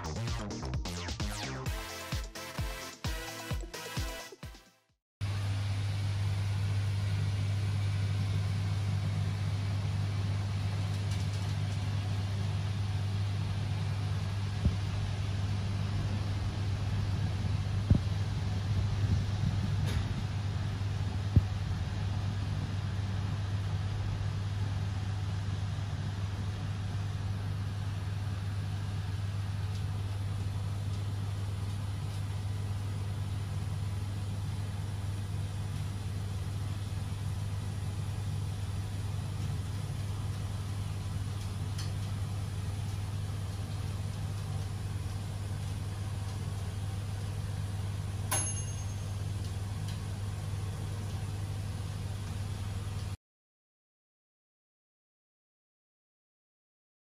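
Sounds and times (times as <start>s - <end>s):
low mechanical hum: 5.2s - 53.2s.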